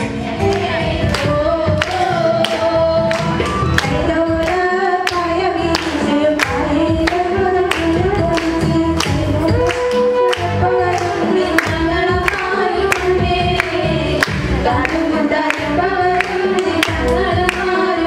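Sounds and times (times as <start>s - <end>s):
women singing: 0.0s - 18.0s.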